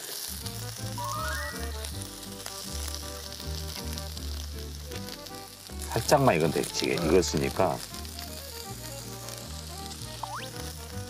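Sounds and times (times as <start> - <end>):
roots sizzling in oil: 0.0 - 11.0
background music: 0.3 - 11.0.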